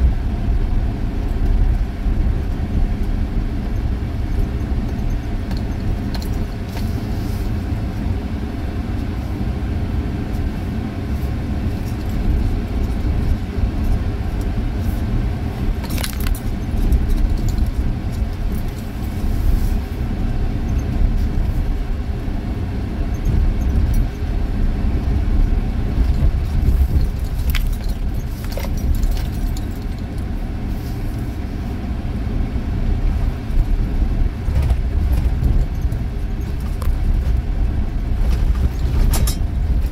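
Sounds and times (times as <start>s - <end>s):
car engine and tyre rumble: 0.0s - 39.9s
sharp rattles in car: 0.0s - 39.9s.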